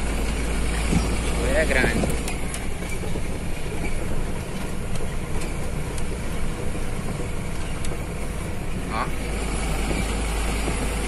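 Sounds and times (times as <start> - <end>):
truck engine rumble: 0.0 - 11.0
tyres on dirt road: 0.0 - 11.0
wind: 0.0 - 11.0.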